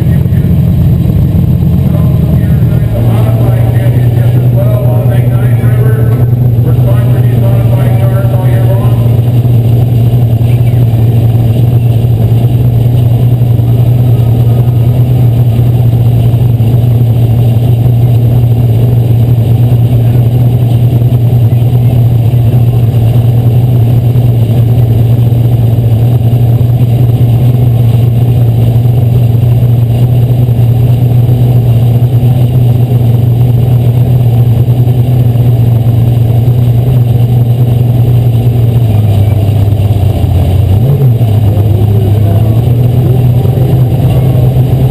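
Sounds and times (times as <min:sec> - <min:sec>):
race car engine running loud: 0:00.0 - 0:44.9.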